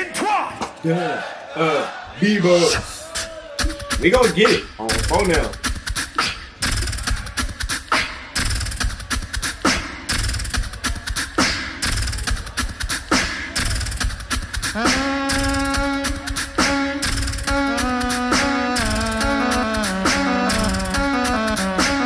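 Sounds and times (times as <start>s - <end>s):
looped beatboxing: 2.6s - 22.0s.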